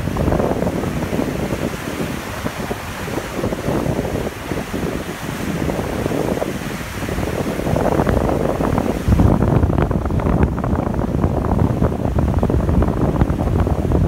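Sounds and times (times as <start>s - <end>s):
rushing floodwater: 0.0s - 14.0s
wind buffeting microphone: 0.0s - 14.0s.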